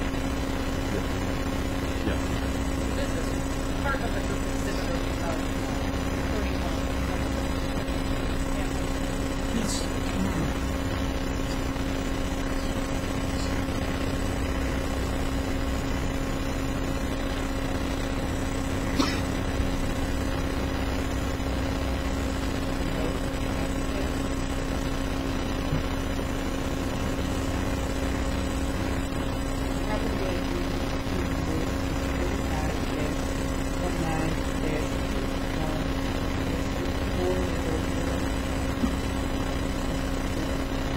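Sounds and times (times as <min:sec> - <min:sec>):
room tone hum and hiss: 0:00.0 - 0:40.9.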